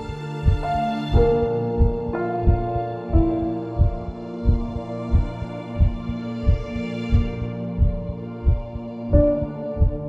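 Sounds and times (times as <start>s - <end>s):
soft low thumping beat: 0.0s - 10.0s
sustained music chords: 0.0s - 10.0s.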